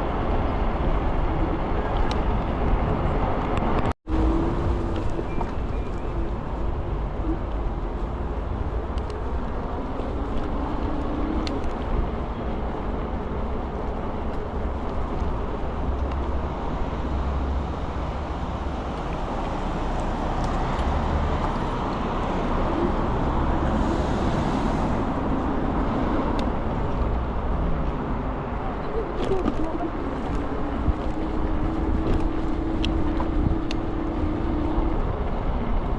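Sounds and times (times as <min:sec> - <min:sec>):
road noise: 0:00.0 - 0:35.9
wind buffeting microphone: 0:00.0 - 0:35.9.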